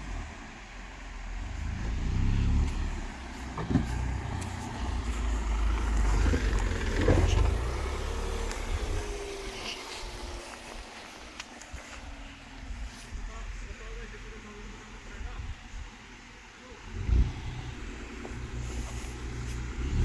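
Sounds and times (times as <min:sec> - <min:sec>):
car driving on rocky dirt track: 0:00.0 - 0:16.2, 0:16.8 - 0:20.0.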